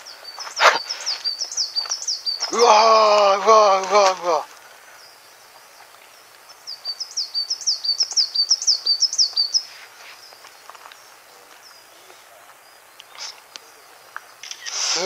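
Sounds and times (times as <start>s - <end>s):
small songbird singing: 0.0s - 15.0s.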